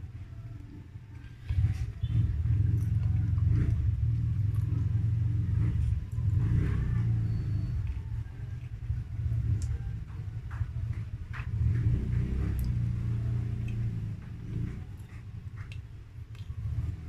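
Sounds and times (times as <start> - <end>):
chewing soft cake: 0.0 - 17.0.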